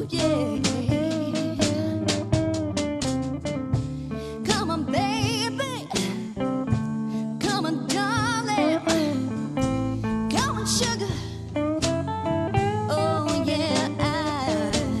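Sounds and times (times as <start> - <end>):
blues band playing: 0.0 - 15.0
lead guitar with vibrato: 0.0 - 15.0.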